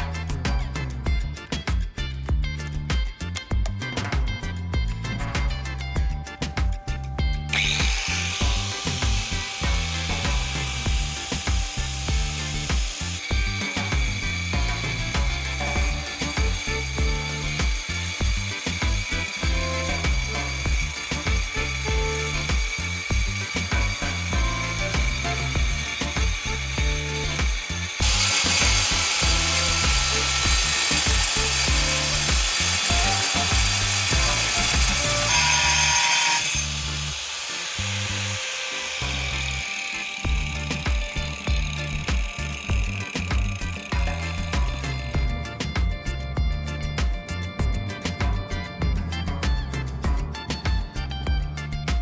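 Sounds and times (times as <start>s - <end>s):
background music with a beat: 0.0s - 37.8s, 38.4s - 52.0s
power tool grinding: 0.0s - 52.0s.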